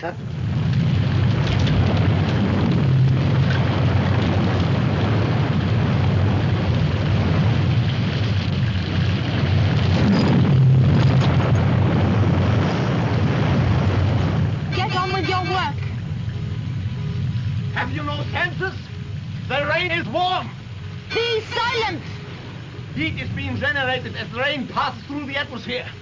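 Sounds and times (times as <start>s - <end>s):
heavy rainstorm: 0.0s - 26.0s.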